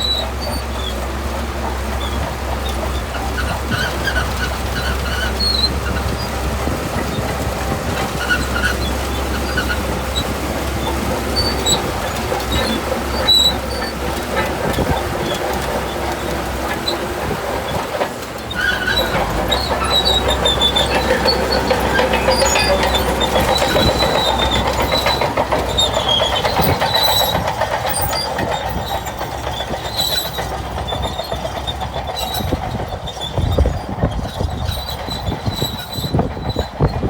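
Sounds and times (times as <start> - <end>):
bulldozer engine running: 0.0 - 37.0
steel tracks clanking: 0.0 - 37.0
tracks squealing: 0.0 - 37.0.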